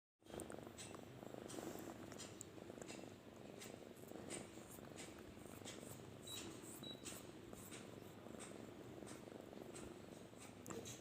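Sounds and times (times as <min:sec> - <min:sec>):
kitten purring: 0:00.2 - 0:11.0.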